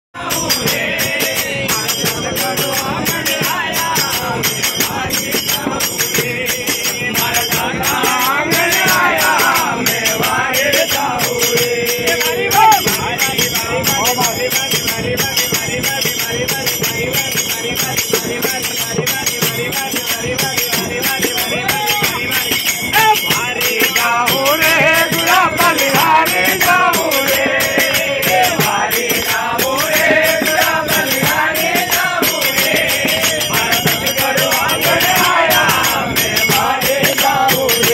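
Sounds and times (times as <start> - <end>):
men singing in unison: 0.2 - 37.9
small hand cymbals jingling: 0.3 - 37.9.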